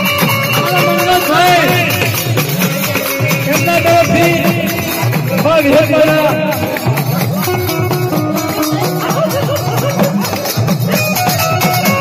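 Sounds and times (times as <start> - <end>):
hand drum beat: 0.0 - 12.0
harmonium melody: 0.0 - 12.0.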